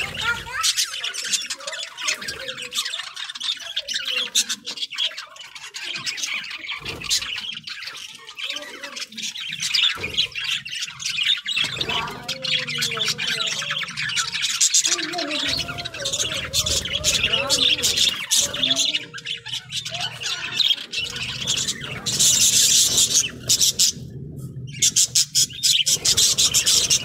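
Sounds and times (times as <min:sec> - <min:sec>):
budgerigars chattering and squawking: 0:00.0 - 0:27.0.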